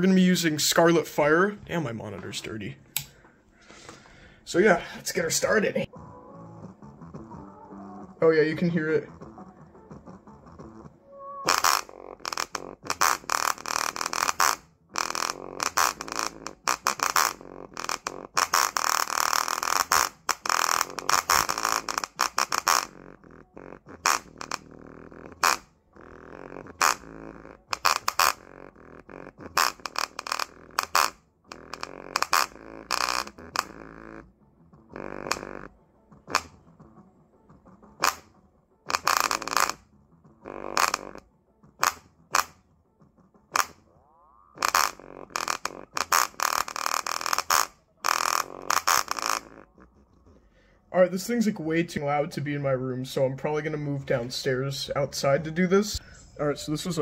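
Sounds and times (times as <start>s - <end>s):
distorted rattling speaker playing music: 3.8s - 57.0s.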